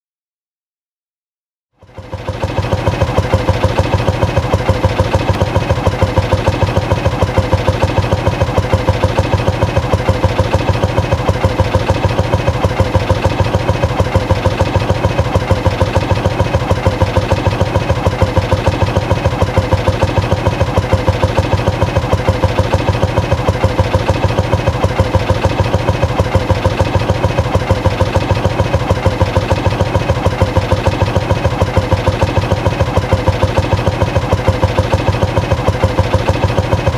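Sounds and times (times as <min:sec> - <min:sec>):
motorcycle engine idling: 0:01.8 - 0:36.9.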